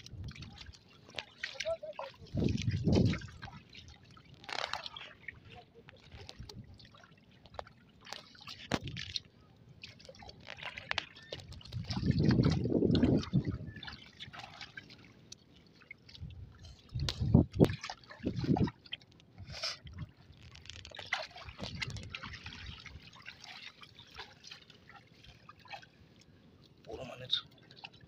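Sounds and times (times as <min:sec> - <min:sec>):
water trickling and splashing: 0:00.0 - 0:28.0.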